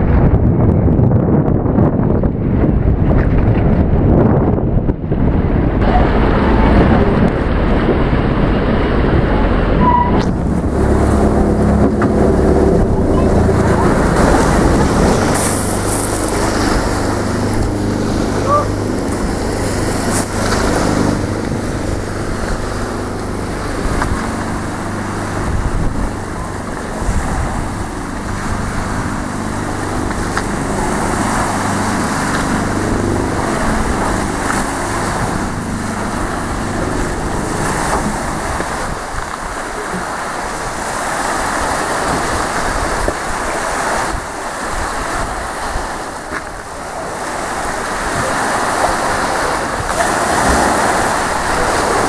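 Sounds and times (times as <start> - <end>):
boat engine humming: 0.0 - 52.0
wind noise on microphone: 0.0 - 52.0
waves washing: 1.8 - 52.0.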